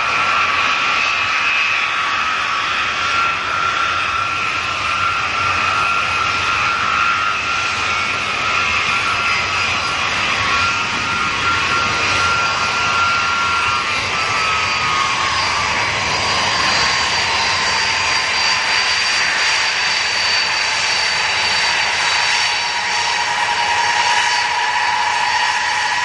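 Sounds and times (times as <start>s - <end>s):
jet engines whining: 0.0s - 26.0s
rushing jet noise: 0.0s - 26.0s.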